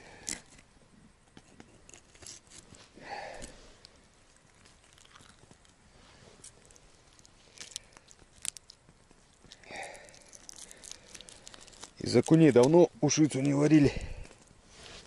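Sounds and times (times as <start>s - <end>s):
food being prepared by hand: 0.0s - 15.0s.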